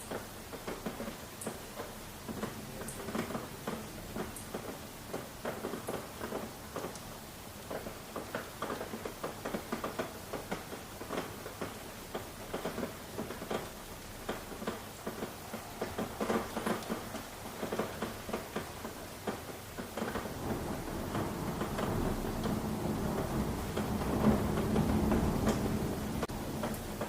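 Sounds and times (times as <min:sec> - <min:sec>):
rain hiss: 0:00.0 - 0:27.0
raindrops tapping: 0:00.0 - 0:27.0.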